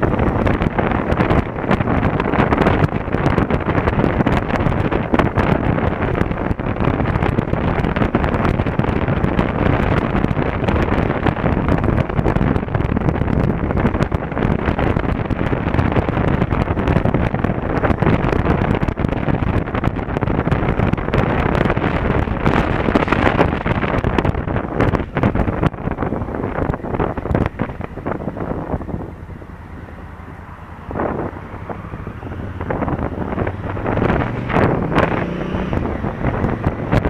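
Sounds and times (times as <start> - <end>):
motorcycle engine: 0.0 - 37.0
road noise: 0.0 - 37.0
wind rushing over microphone: 0.0 - 37.0.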